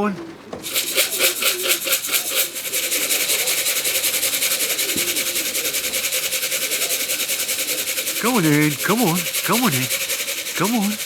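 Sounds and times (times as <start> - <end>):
grain rattling in shaken tin: 0.6 - 11.0.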